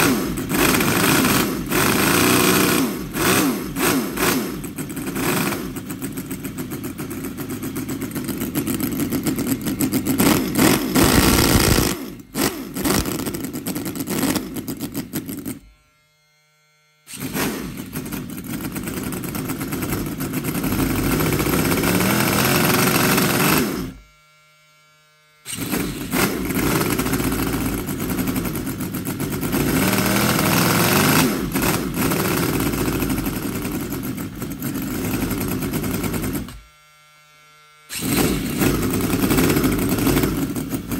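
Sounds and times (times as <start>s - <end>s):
model engine revving: 0.0s - 15.6s, 17.1s - 24.0s, 25.5s - 36.6s, 37.9s - 40.9s.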